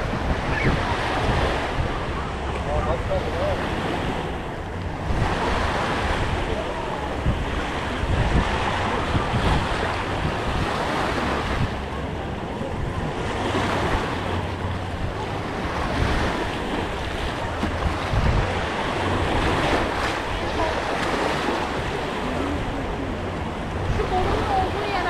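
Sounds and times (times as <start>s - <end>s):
small waves on sandy shore: 0.0s - 25.0s
wind noise on microphone: 0.0s - 25.0s.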